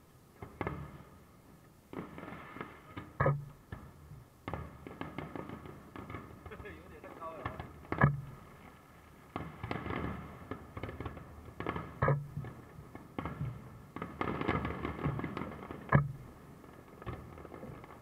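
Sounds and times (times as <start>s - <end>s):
firework crackling: 1.8s - 3.6s, 4.4s - 18.0s
firework shells bursting: 1.9s - 18.0s.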